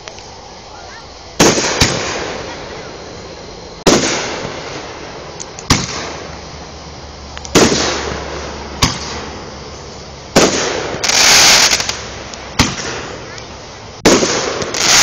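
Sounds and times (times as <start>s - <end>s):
fireworks bangs: 0.8s - 3.1s, 3.8s - 6.5s, 7.5s - 15.0s.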